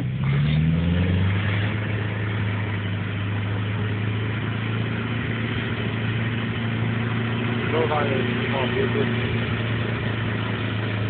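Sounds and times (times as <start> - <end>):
vehicle engine running low: 0.0 - 11.0.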